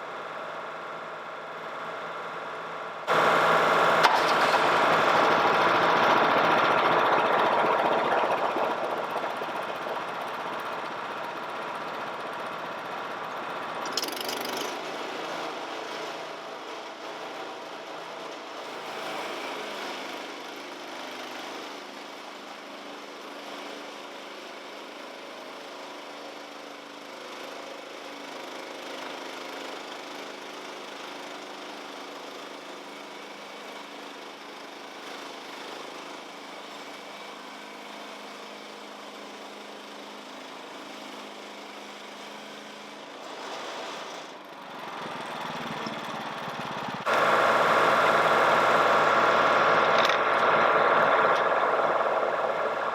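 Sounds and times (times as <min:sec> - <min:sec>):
small gasoline engine running: 0:00.0 - 0:52.9.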